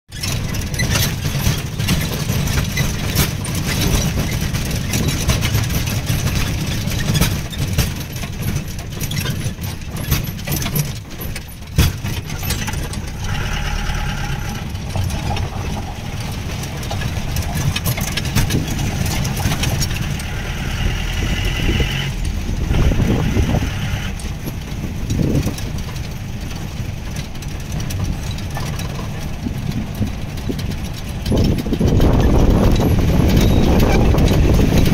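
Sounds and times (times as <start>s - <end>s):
car engine rumble: 0.1s - 34.9s
vehicle body rattling and knocking: 0.1s - 34.9s.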